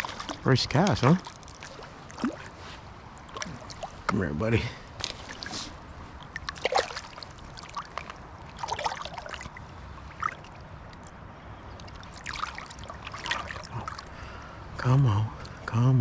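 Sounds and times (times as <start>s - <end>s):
fish splashing: 0.0s - 4.1s, 5.0s - 14.5s
river water running: 0.0s - 16.0s.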